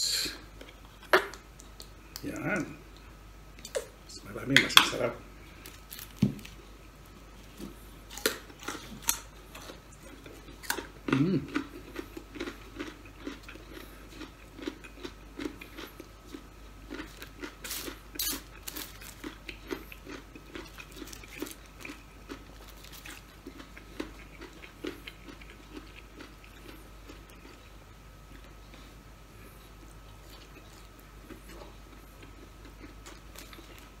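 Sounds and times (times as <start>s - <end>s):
person chewing crispy food: 5.4s - 34.0s.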